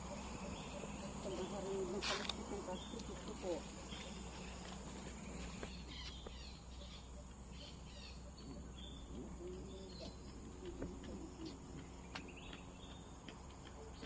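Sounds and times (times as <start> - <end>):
bird chirps: 0.0 - 14.0
insects droning: 0.0 - 14.0.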